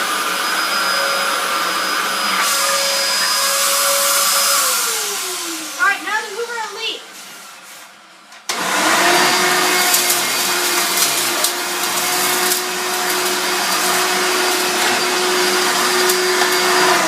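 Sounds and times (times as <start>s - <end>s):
vacuum cleaner motor whine: 0.0s - 6.3s, 8.5s - 17.0s.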